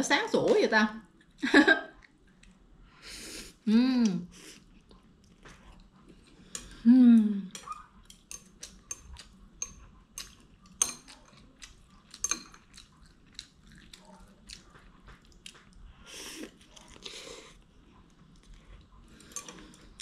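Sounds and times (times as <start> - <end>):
person chewing noodles: 2.0 - 6.9, 7.5 - 20.0.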